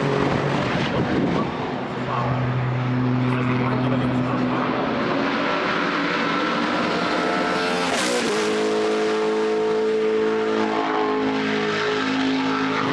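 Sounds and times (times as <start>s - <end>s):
race car engines running: 0.0s - 12.9s
race car passing close: 0.0s - 12.9s.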